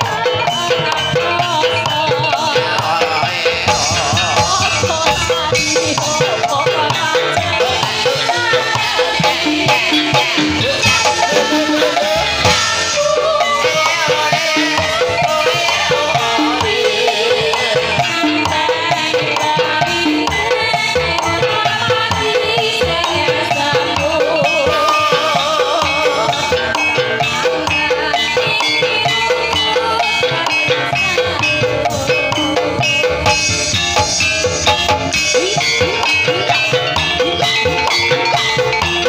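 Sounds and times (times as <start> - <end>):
drums: 0.0 - 39.0
struck metal-keyed instruments: 0.0 - 39.0
wavering melody line: 0.0 - 39.0.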